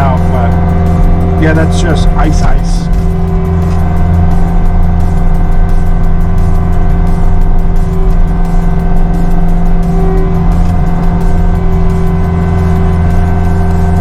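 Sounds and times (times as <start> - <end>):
diesel engine running: 0.0 - 14.0
hydraulic whine: 0.0 - 14.0.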